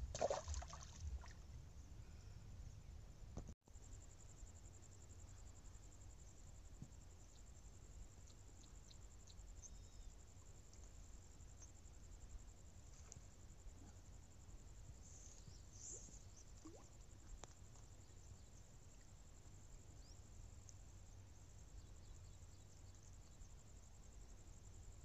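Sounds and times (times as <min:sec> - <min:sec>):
faint steady high buzz: 0:00.0 - 0:25.0.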